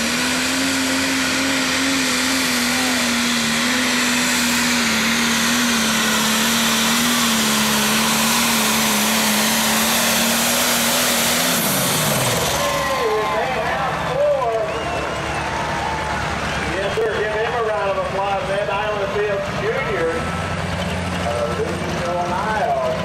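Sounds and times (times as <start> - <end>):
diesel tractor engine at high revs: 0.0 - 23.0.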